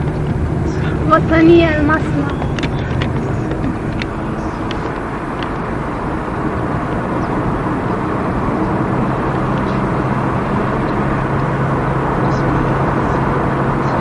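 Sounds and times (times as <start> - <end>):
car engine hum: 0.0 - 14.0
road noise rush: 0.0 - 14.0.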